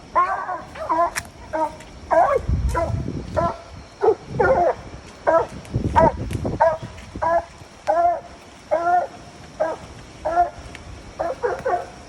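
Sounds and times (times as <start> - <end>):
dog barking: 0.1 - 10.6, 11.2 - 12.0.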